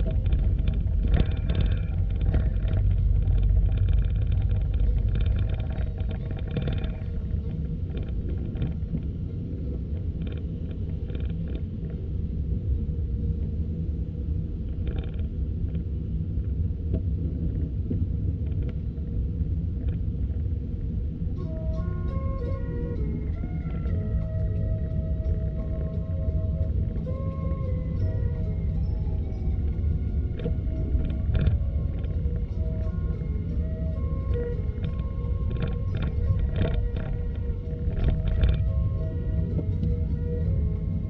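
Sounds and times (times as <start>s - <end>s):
low rumble of traffic: 0.0s - 41.0s.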